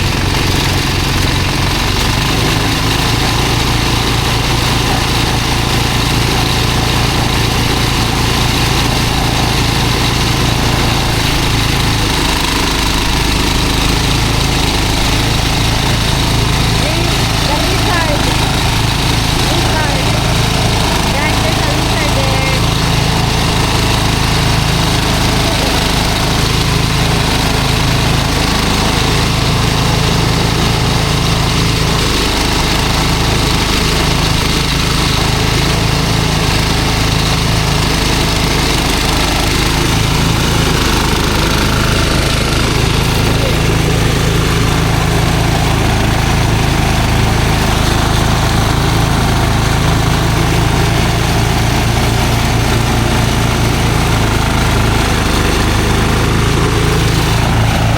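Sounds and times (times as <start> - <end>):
engine running: 0.0 - 57.9.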